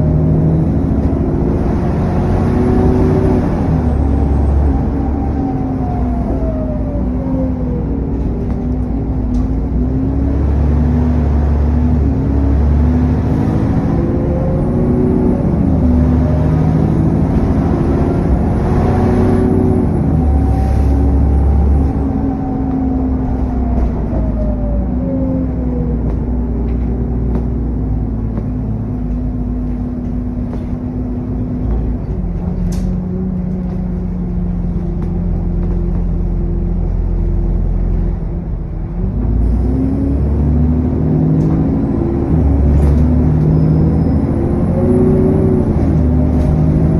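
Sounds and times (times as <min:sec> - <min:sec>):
diesel bus engine: 0:00.0 - 0:46.9.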